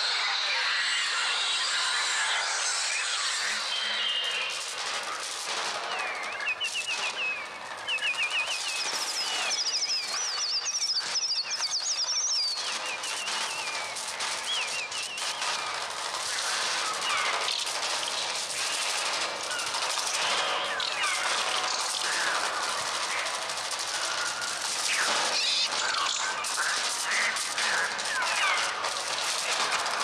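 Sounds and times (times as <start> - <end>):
flapping wings clatter: 3.0 - 30.0.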